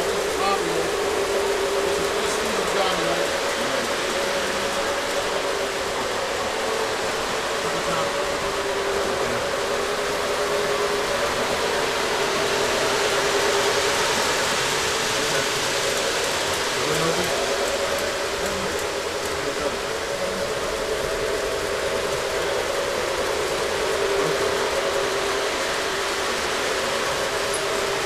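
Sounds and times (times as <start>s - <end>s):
model trains rolling rumble: 0.0s - 28.0s
steady hum: 0.0s - 28.0s.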